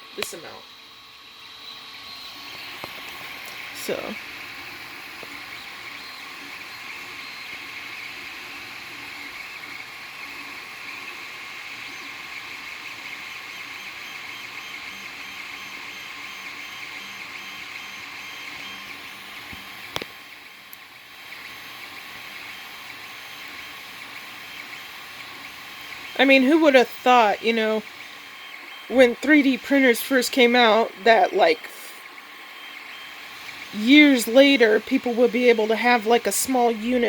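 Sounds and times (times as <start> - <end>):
stepper motors whirring and whining: 0.0 - 37.0
fan hum: 1.6 - 37.0.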